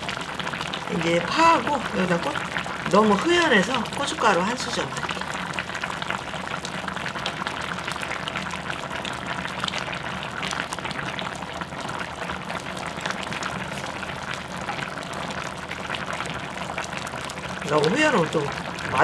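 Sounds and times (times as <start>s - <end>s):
stew bubbling in a pot: 0.0s - 19.0s.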